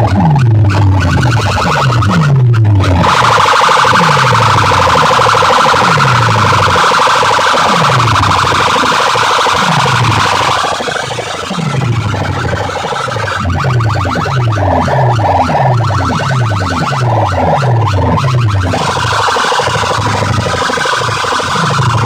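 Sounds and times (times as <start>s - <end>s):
buzzing siren-like tone: 0.0s - 22.0s.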